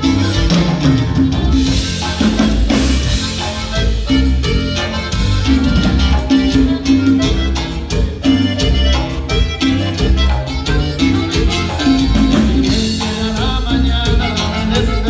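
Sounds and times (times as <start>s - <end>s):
latin dance music: 0.0s - 15.0s.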